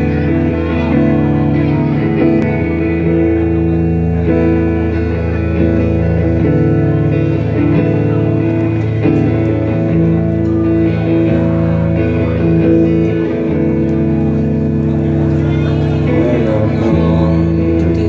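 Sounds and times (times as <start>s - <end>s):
electric guitar chords ringing: 0.0s - 18.0s
live band playing: 0.0s - 18.0s.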